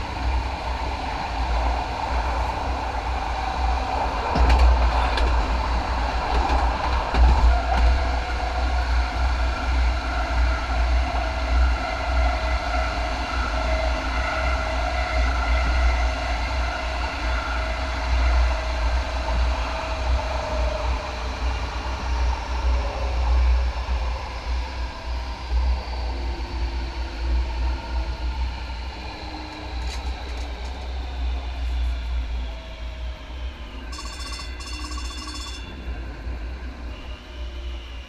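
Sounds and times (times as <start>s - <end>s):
faint train whine: 0.0s - 38.0s
light rail train rumbling: 0.0s - 38.0s.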